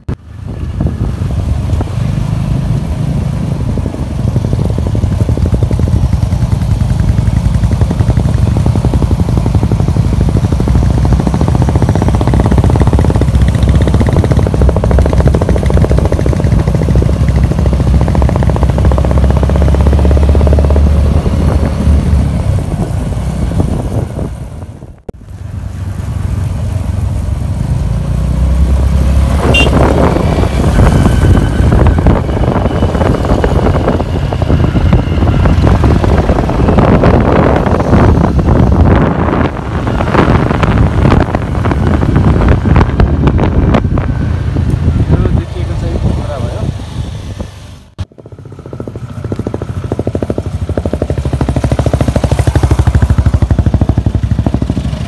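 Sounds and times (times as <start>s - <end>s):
motorcycle engines running: 0.0s - 55.0s.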